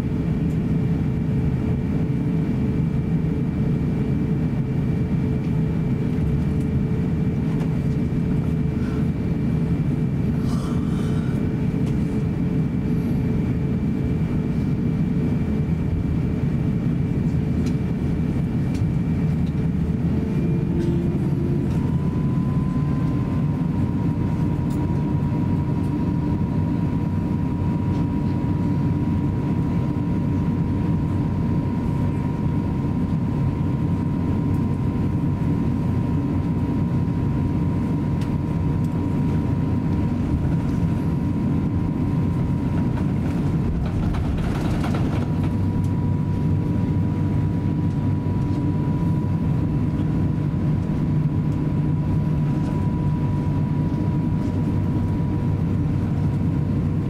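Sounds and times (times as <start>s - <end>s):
aircraft engines low rumble: 0.0s - 57.0s
thin steady whine: 7.8s - 57.0s.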